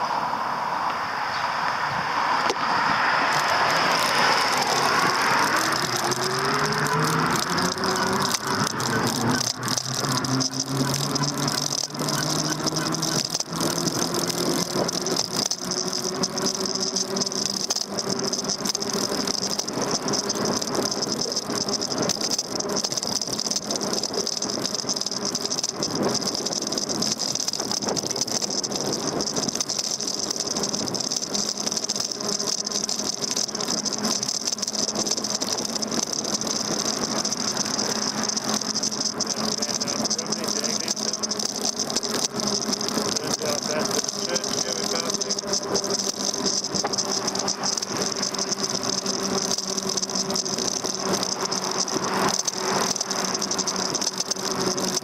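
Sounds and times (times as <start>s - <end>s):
handlebar rattling: 2.4s - 55.0s.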